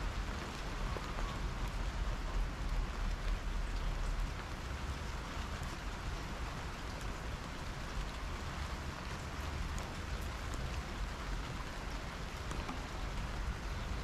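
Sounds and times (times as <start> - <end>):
soft rain falling: 0.0 - 14.0.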